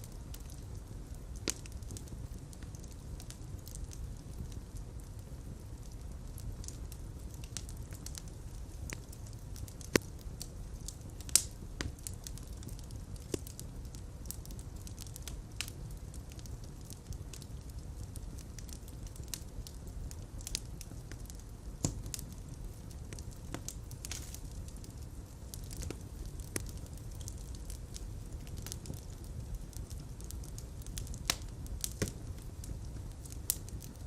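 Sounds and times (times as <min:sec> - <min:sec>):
fire popping: 0:00.0 - 0:34.0
fire rumbling in fireplace: 0:00.0 - 0:34.0.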